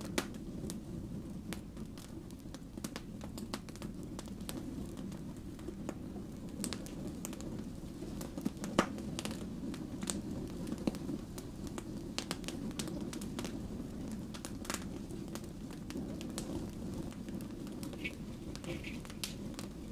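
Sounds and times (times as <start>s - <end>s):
burning logs crackling and popping: 0.0s - 19.9s
fire flame rushing: 0.0s - 19.9s.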